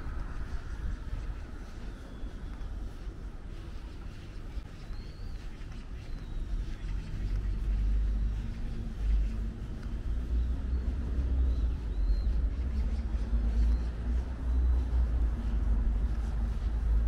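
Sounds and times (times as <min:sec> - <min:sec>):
road traffic rumble: 0:00.0 - 0:17.0
faint bird chirps: 0:00.4 - 0:15.6.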